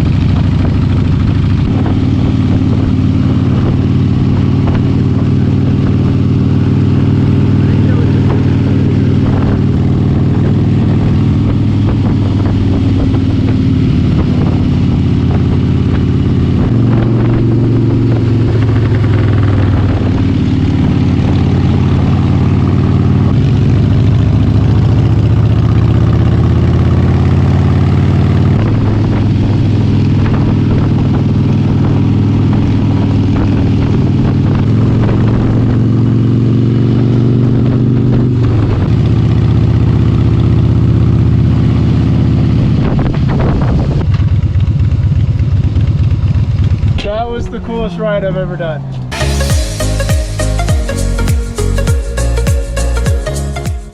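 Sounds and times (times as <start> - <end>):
motorcycle engine running: 0.0 - 47.8.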